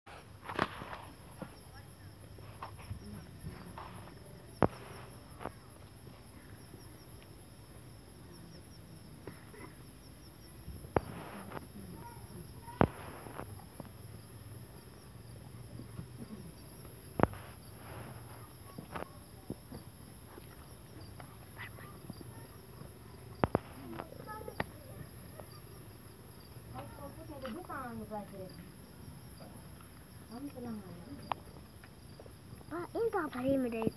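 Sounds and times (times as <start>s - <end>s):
night insects trilling: 0.1s - 33.9s.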